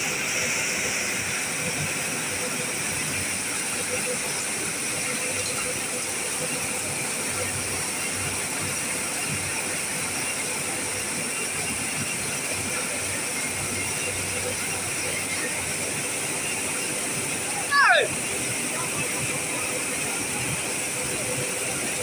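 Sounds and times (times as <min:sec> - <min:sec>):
machine running with even hiss: 0:00.0 - 0:22.0.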